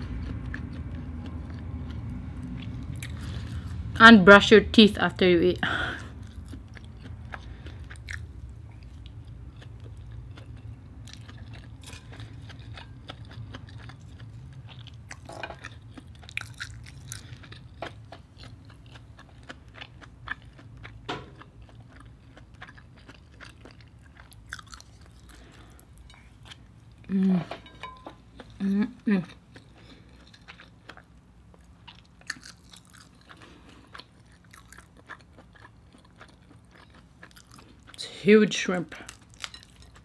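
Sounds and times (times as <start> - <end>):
person chewing food: 0.0 - 3.9, 5.7 - 38.0, 39.0 - 40.0.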